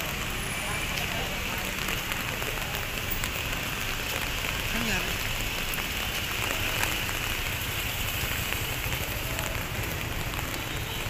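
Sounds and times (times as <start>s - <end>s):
steady hiss of rain: 0.0s - 11.0s.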